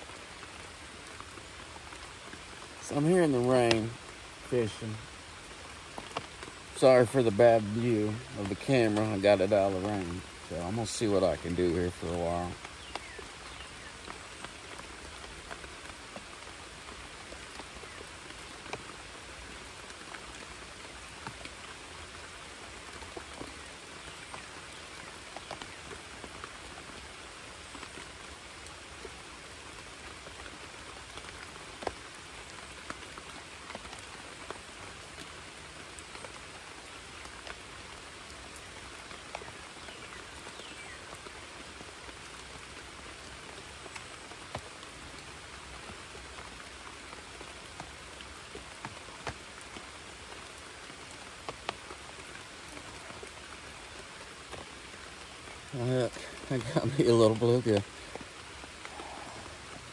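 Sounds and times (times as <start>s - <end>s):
rain falling on a creek: 0.0s - 59.9s.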